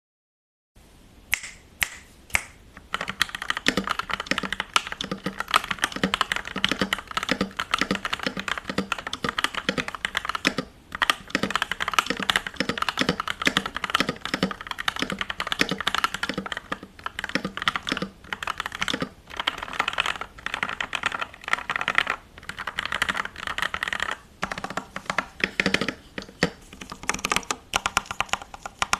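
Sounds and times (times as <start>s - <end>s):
mechanical keyboard typing: 2.8s - 28.9s.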